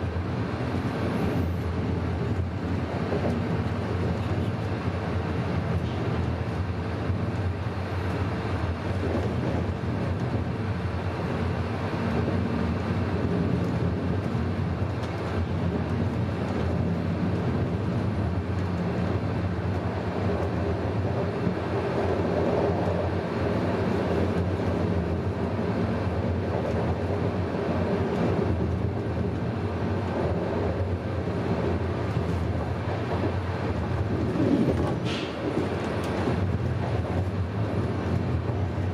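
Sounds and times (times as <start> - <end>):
train rumbling on track: 0.0 - 38.9.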